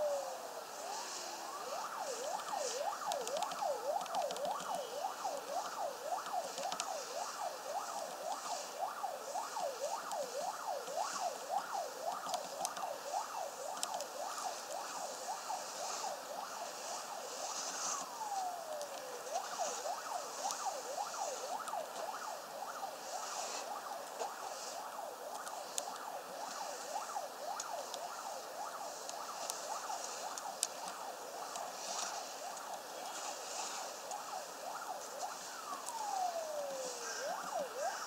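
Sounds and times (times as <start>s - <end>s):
emergency siren yelping: 0.0s - 38.0s.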